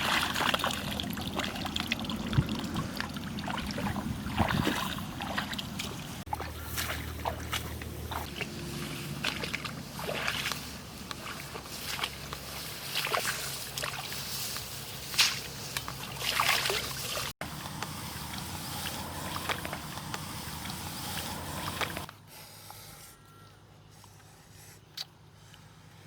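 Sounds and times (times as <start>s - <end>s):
water sloshing and splashing: 0.0s - 22.1s.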